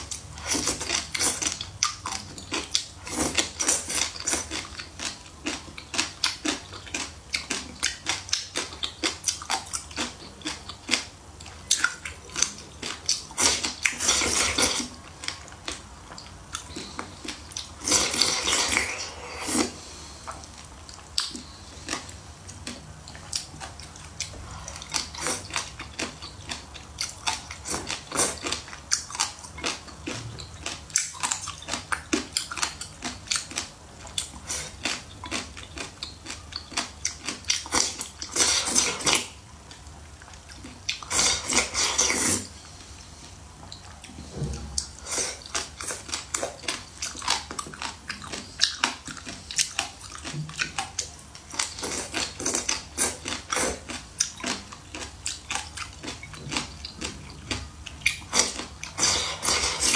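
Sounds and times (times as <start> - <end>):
chewing crisp pickle: 0.1 - 59.9.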